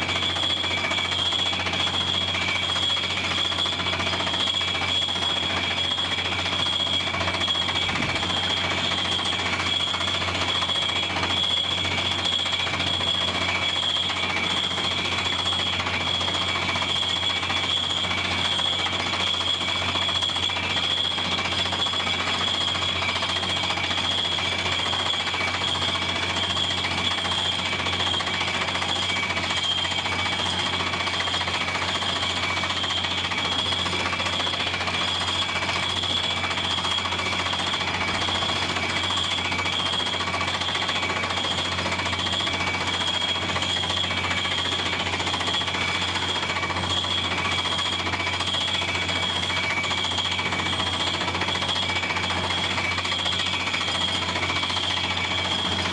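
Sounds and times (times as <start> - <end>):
drilling rig rattling: 0.0 - 55.9
high whine: 0.0 - 55.9.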